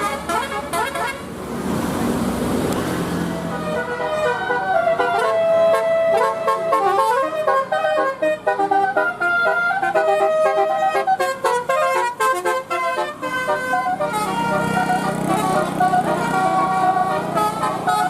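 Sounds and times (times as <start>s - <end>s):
musical bus horn tune: 0.0s - 1.4s, 3.3s - 18.0s.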